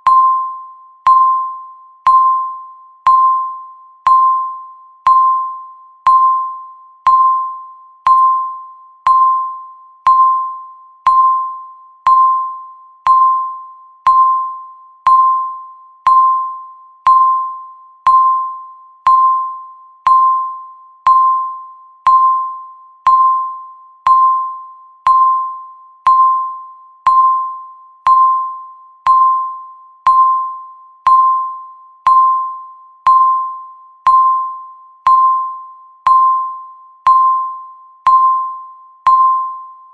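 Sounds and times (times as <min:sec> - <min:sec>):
bell-like timer beep: 0:00.0 - 0:39.9.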